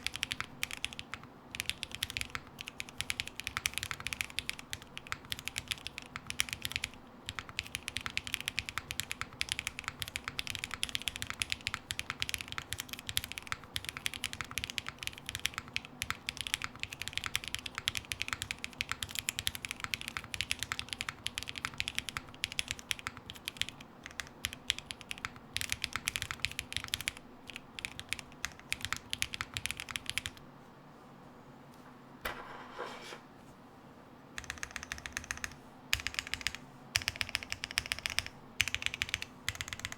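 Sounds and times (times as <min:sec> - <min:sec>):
fast mechanical keyboard typing: 0:00.0 - 0:30.4, 0:34.4 - 0:39.9.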